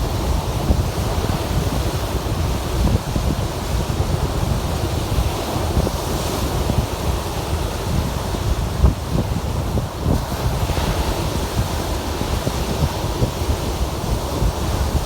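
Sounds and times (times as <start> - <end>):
lake waves breaking on shore: 0.0 - 15.0
wind rumbling on microphone: 0.0 - 15.0.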